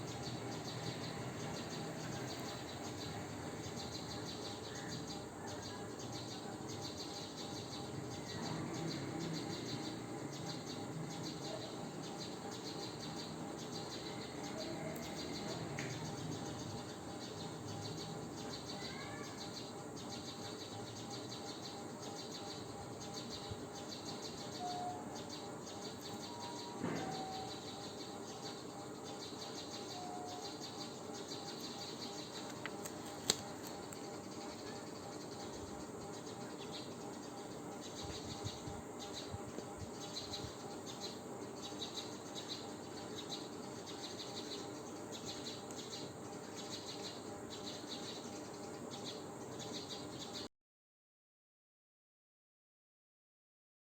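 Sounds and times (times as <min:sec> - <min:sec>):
insects chirping: 0:00.0 - 0:50.5.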